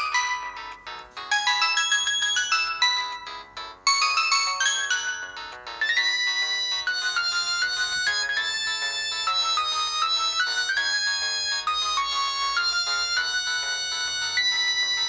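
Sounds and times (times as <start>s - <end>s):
polyphonic ringtone melody: 0.0s - 15.0s.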